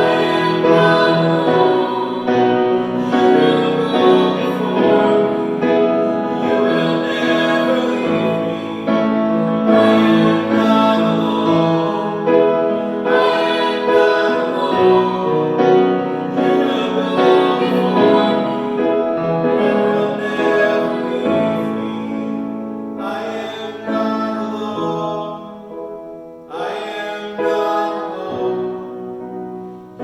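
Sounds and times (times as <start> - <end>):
person singing: 0.0 - 25.8, 26.5 - 29.0
piano: 0.0 - 30.0.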